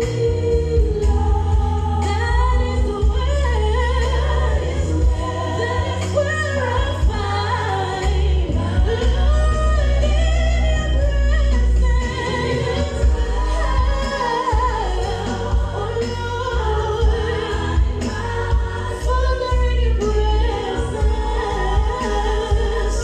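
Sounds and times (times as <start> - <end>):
amplified backing music with bass: 0.0 - 23.0
woman singing into a microphone: 0.0 - 23.0.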